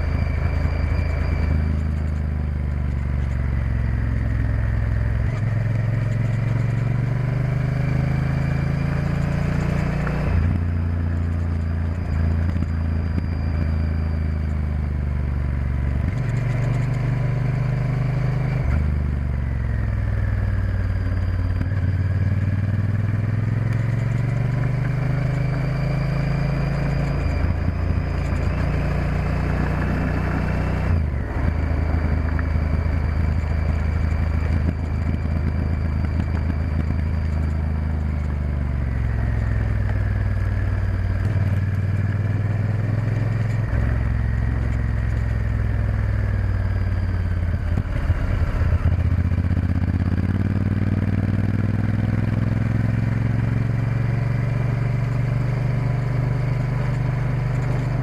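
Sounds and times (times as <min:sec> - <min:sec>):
motorcycle engine with gear changes: 0:00.0 - 0:58.0.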